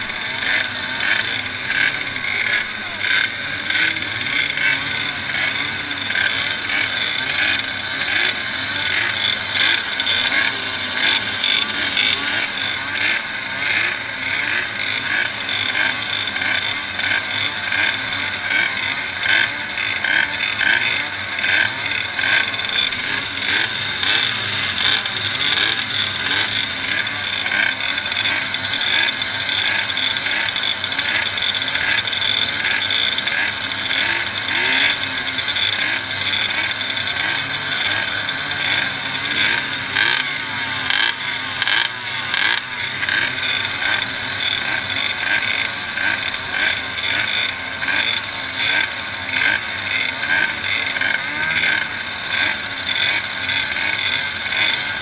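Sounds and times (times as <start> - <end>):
moped engines buzzing: 0.0 - 55.0.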